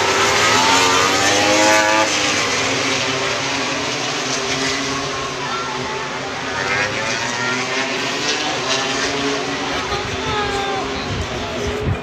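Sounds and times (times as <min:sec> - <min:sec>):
racing motorcycles passing at high revs: 0:00.0 - 0:12.0.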